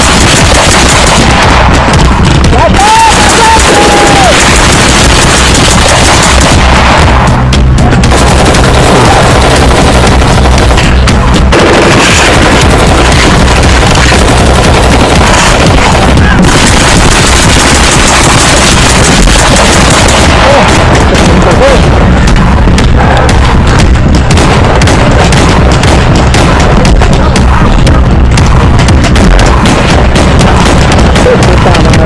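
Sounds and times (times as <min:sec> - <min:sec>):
compressed soundtrack music: 0:00.0 - 0:32.0
rapid gunshots and booms: 0:00.0 - 0:32.0.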